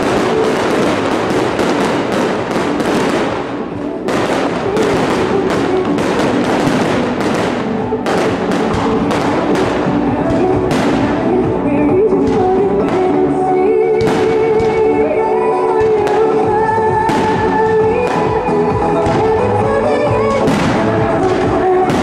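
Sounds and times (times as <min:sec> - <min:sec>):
fireworks crackling and banging: 0:00.0 - 0:22.0
music playing: 0:00.0 - 0:22.0.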